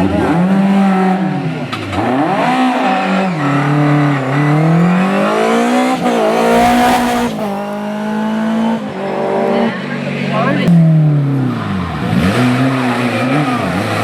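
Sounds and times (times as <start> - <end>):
rally car engine revving hard: 0.0 - 14.0.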